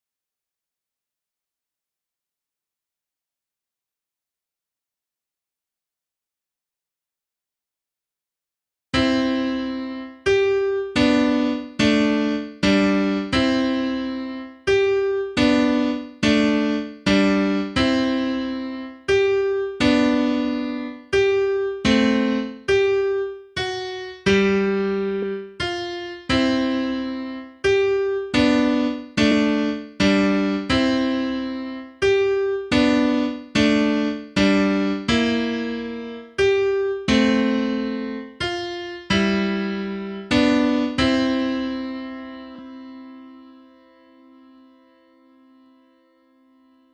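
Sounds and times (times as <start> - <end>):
piano playing simple piece: 9.0 - 46.9.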